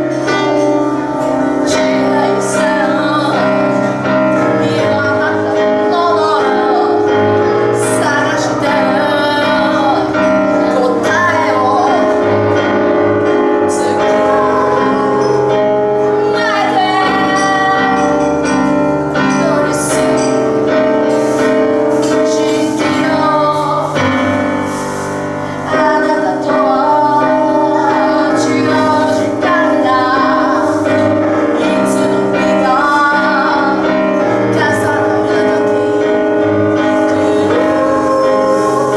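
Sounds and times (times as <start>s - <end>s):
grand piano: 0.0s - 38.9s
woman singing: 0.0s - 38.9s.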